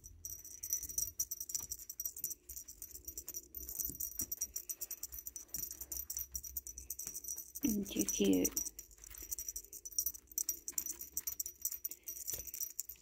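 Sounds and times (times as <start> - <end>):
small jingle bell jingling: 0.0 - 13.0.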